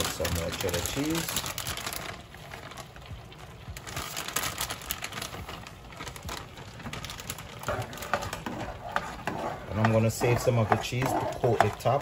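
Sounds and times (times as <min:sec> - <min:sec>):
shredded cheese pattering into pot: 0:00.0 - 0:12.0.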